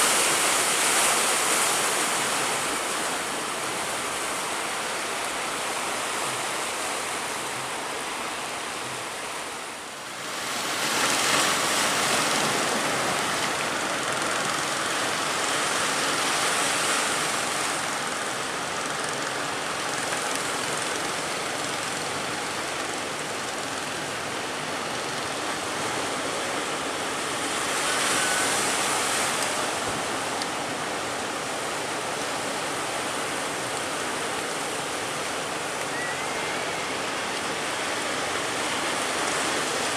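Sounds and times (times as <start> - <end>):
ocean waves breaking in surf: 0.0 - 39.9.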